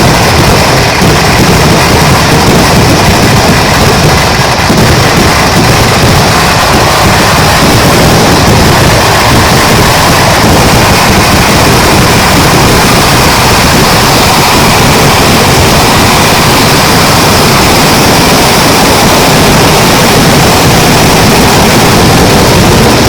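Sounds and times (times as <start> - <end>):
firecrackers banging: 0.0 - 23.0.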